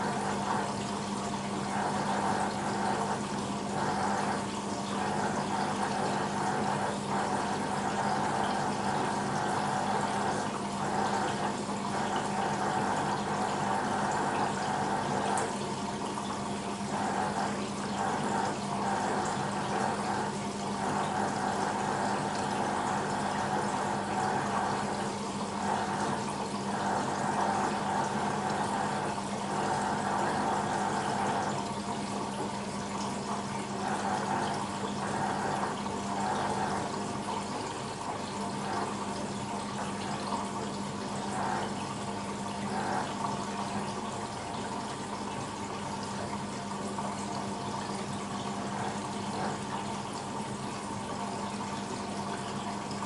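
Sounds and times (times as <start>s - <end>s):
mechanical hum: 0.0s - 53.0s
washing machine water rushing: 0.0s - 53.0s.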